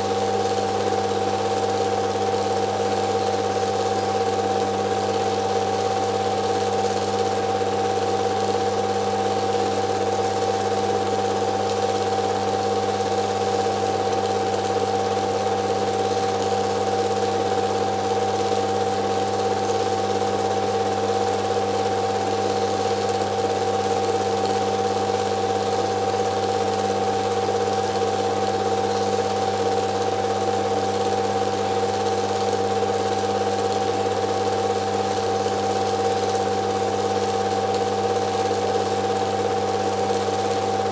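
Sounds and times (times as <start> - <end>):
film projector whirring: 0.0 - 40.9.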